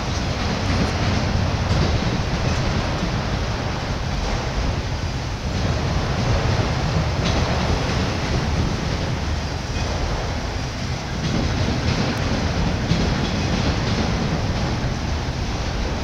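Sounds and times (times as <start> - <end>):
freight train wheels rumbling on rail: 0.0 - 16.0
wheels clicking over rail joints: 0.0 - 16.0.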